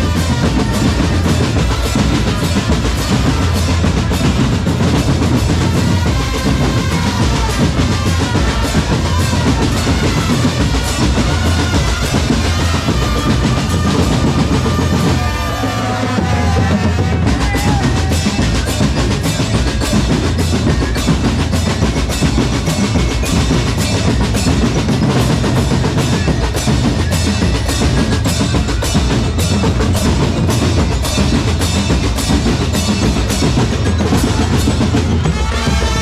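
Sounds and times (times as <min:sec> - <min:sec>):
bass drums: 0:00.0 - 0:36.0
snare drums: 0:00.0 - 0:36.0.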